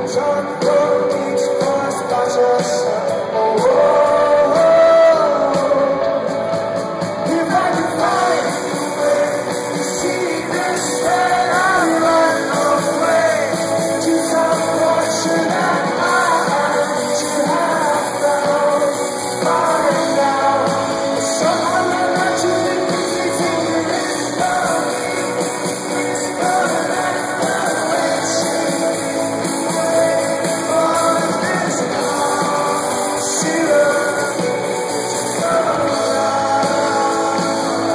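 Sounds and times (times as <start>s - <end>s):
live rock band playing: 0.0s - 37.9s
man singing: 0.0s - 37.9s.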